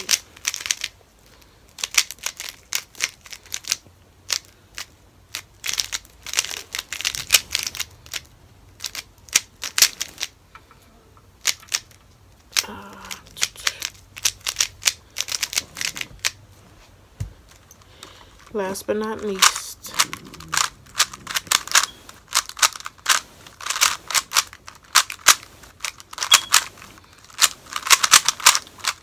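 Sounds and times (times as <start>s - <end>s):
speed cube clicking: 0.0s - 1.0s, 1.8s - 10.4s, 11.4s - 16.4s, 19.3s - 29.0s.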